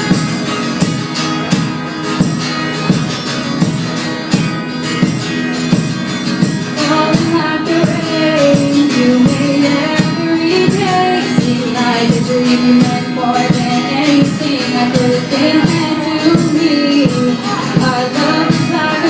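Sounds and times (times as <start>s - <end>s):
live band playing pop: 0.0s - 19.0s.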